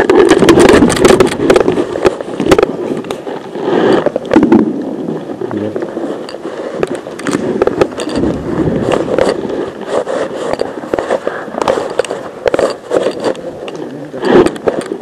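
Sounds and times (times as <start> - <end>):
clothing and gear rustling: 0.0 - 15.0.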